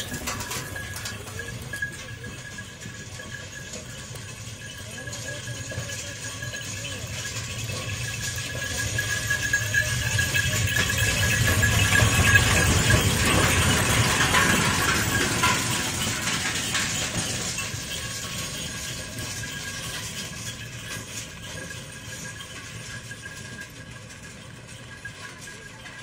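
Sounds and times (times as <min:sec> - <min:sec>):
cart wheels rattling and clattering: 0:00.0 - 0:26.0.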